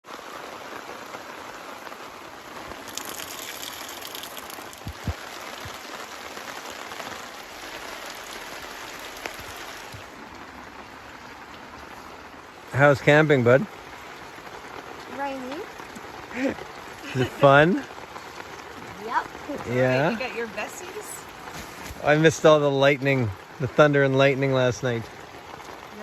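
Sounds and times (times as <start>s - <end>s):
rain falling: 0.0s - 26.0s
heavy raindrops thudding: 0.1s - 26.0s.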